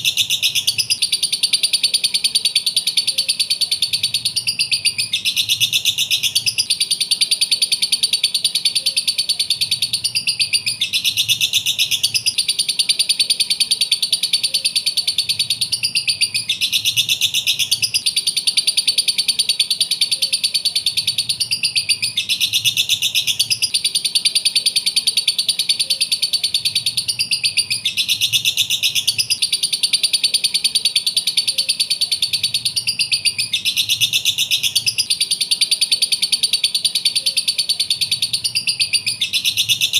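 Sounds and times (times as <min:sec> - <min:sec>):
lovebird chattering and chirping: 0:00.0 - 0:39.9.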